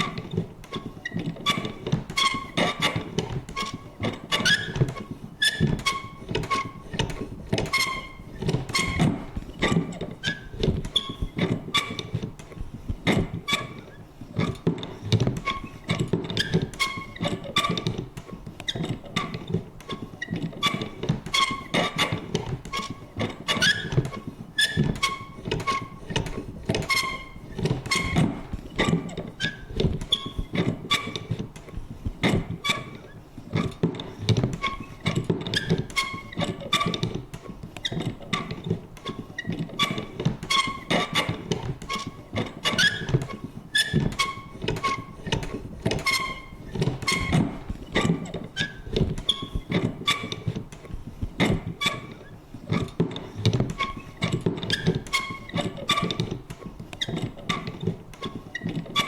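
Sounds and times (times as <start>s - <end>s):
squeaky creak: 0.0s - 18.1s, 18.7s - 50.6s, 51.4s - 59.0s
paper punch clicking and thunking: 0.0s - 59.0s.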